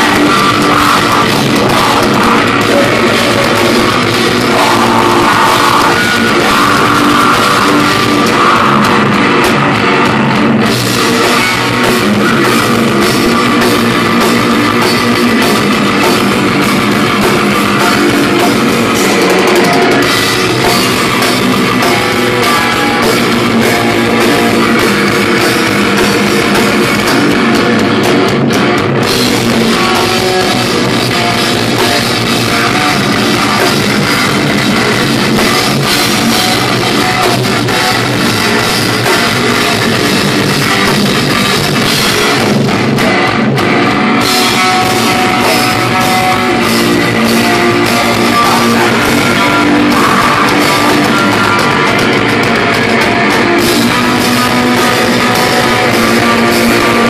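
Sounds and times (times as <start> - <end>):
distorted electric guitar: 0.0 - 57.0
drum kit with cymbals: 0.0 - 57.0.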